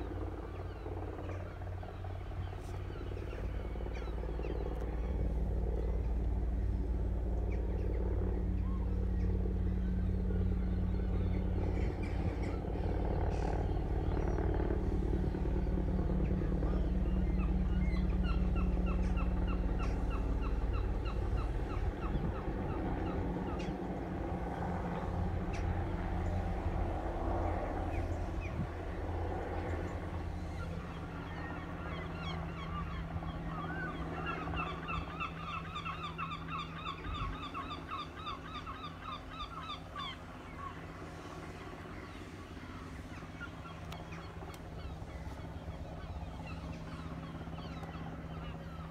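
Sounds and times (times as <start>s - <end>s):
distant helicopter drone: 0.0s - 48.9s.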